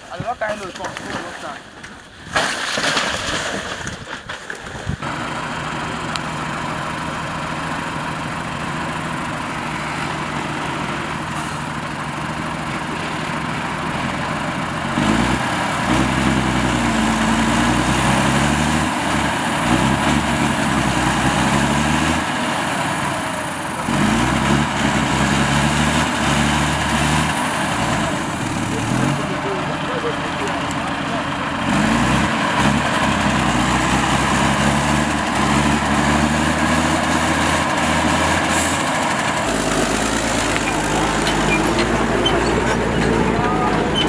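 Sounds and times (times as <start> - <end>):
vehicle engine revving: 5.0 - 44.0.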